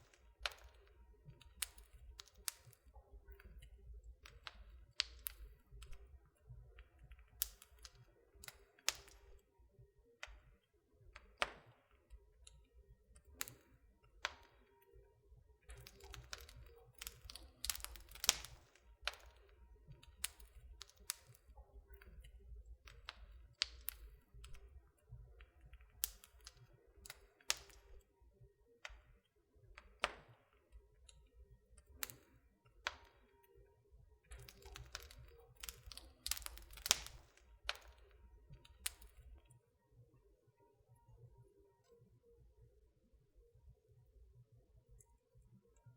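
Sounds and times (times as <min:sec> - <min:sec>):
wood fire crackling and popping: 0:00.0 - 0:09.5, 0:10.2 - 0:28.1, 0:28.8 - 0:33.6, 0:34.2 - 0:39.5.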